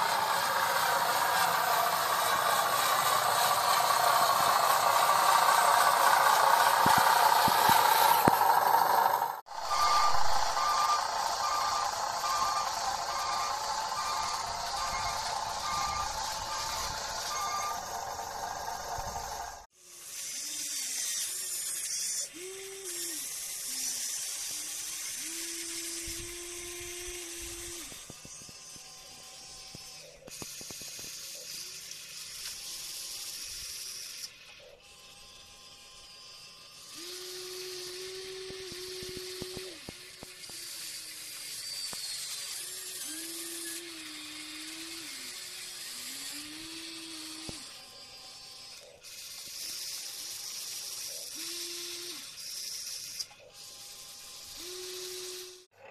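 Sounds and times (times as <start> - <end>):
toy excavator motors whining: 0.0 - 55.9.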